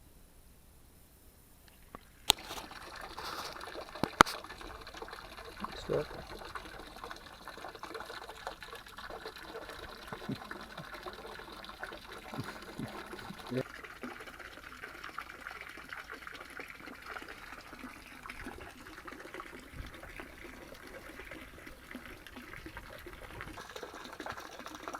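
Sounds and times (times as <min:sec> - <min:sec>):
water trickling into a pond: 0:01.6 - 0:24.9.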